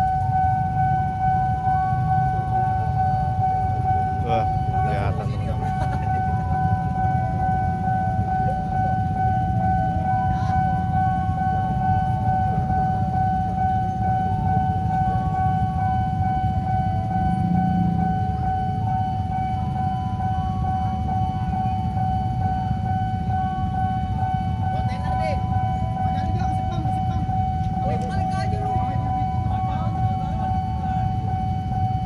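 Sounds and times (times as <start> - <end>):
level crossing alarm tone: 0.0 - 32.0
low traffic rumble: 0.0 - 32.0.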